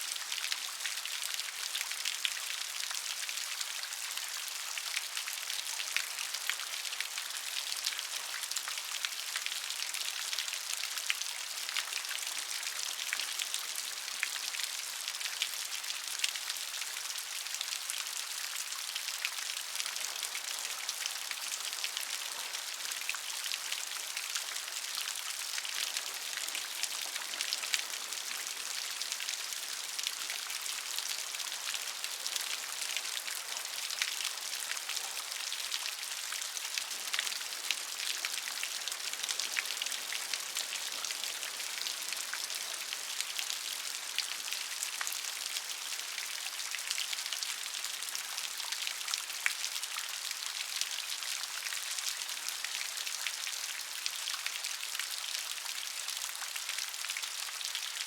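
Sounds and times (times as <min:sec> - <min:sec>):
gentle rain: 0:00.0 - 0:58.0.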